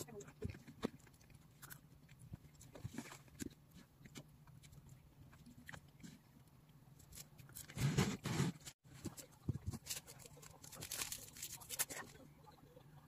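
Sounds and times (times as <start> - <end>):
faint eating sounds: 0.0 - 8.1, 8.8 - 13.0.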